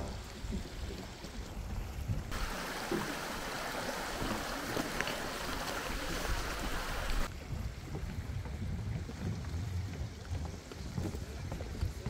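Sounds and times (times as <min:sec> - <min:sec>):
hot spring rushing hiss: 0:00.0 - 0:12.0.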